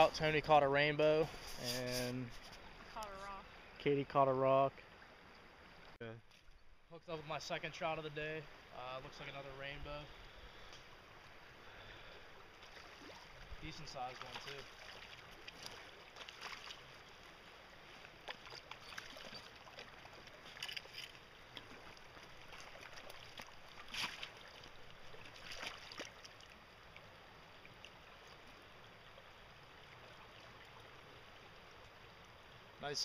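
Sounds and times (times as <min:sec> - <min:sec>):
creek water running: 0:00.0 - 0:33.0.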